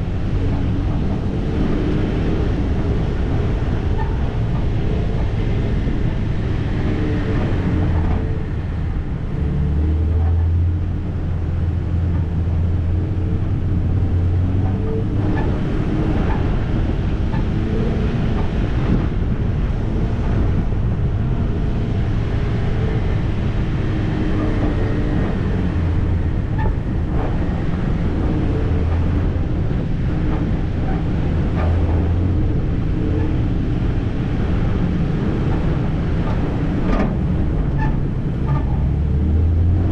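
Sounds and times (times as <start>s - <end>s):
vehicle engine running at low revs: 0.0s - 39.9s.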